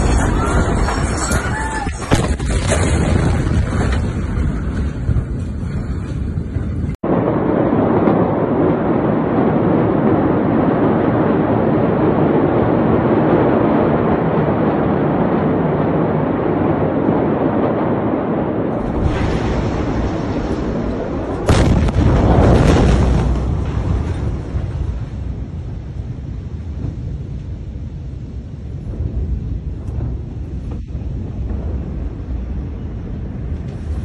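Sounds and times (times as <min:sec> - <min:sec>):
rumbling noise: 0:00.0 - 0:34.0.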